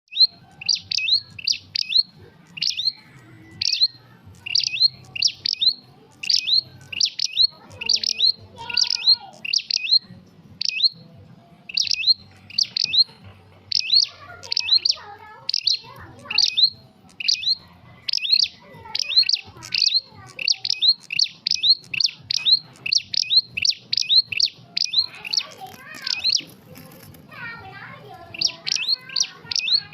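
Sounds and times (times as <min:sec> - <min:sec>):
songbird chirping: 0:00.0 - 0:29.9.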